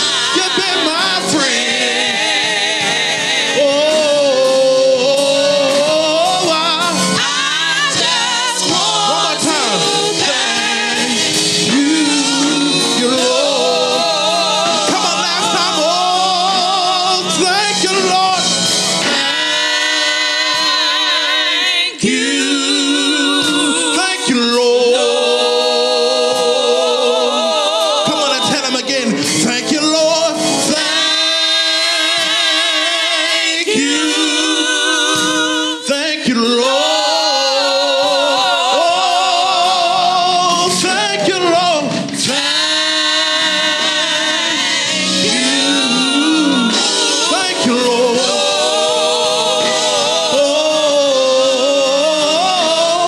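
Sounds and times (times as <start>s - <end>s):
man singing lead: 0.0s - 2.2s, 2.8s - 19.6s, 21.9s - 31.2s, 32.2s - 42.8s, 43.4s - 53.0s
women singing backing: 0.0s - 29.5s, 30.5s - 53.0s.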